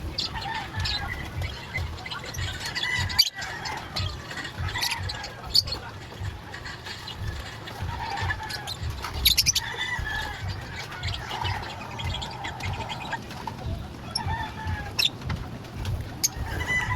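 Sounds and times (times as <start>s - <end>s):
birds calling: 0.0s - 16.9s
wings flapping: 0.0s - 16.9s.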